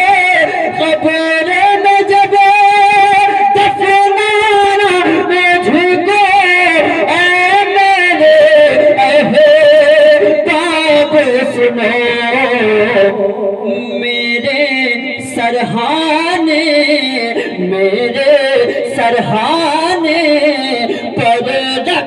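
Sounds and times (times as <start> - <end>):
man singing: 0.0 - 22.0.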